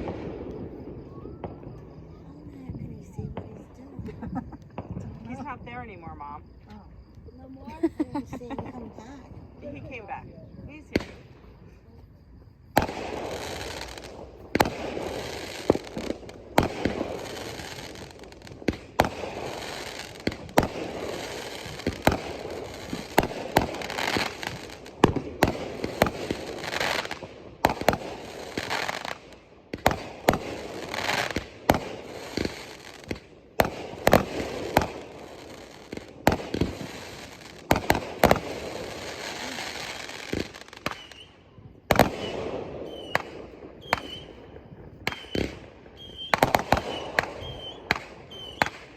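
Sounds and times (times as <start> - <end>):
fireworks bangs: 0.0 - 48.9
fireworks hissing and crackling: 0.0 - 48.9.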